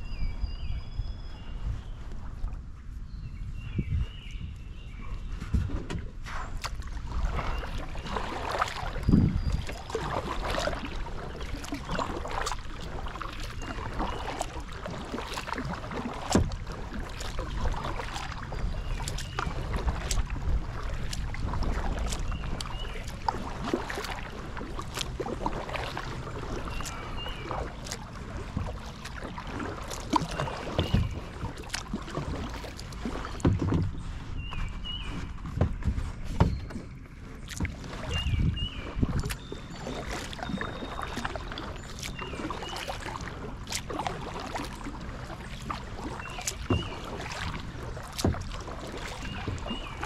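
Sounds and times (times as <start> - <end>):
paddle splashing in water: 4.9 - 50.0.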